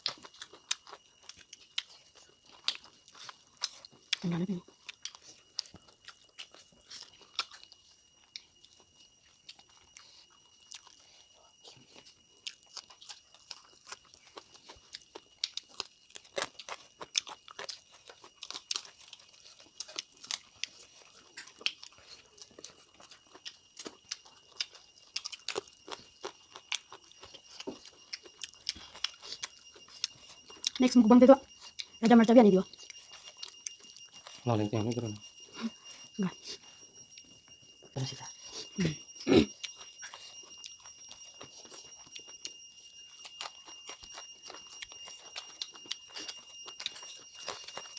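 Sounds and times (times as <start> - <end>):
chewing and crunching: 0.0 - 47.9
faint high-pitched tone: 0.0 - 47.9.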